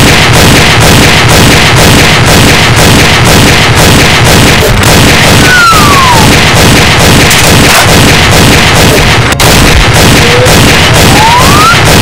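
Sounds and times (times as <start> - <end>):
gunfire and blast effects: 0.0 - 12.0.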